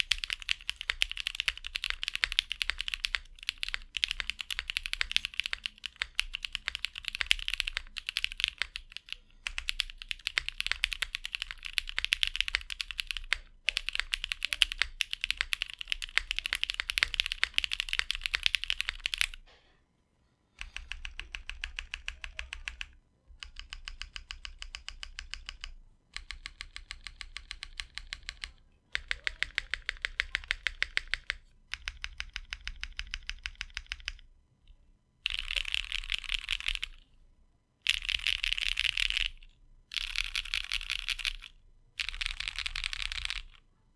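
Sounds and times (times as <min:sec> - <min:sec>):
typing on mechanical keyboard: 0:00.0 - 0:19.4, 0:20.6 - 0:34.3, 0:35.2 - 0:37.1, 0:37.8 - 0:43.6.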